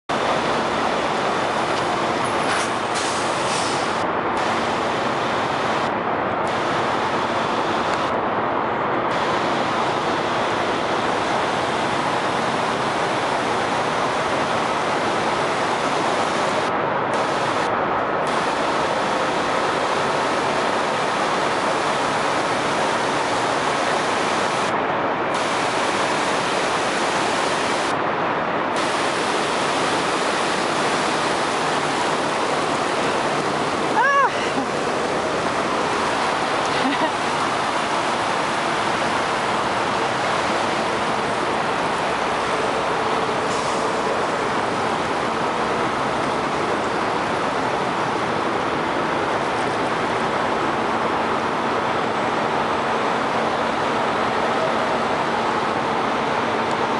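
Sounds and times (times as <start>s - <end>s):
truck engines running: 0.0s - 56.9s
rushing wash of water: 0.1s - 56.9s.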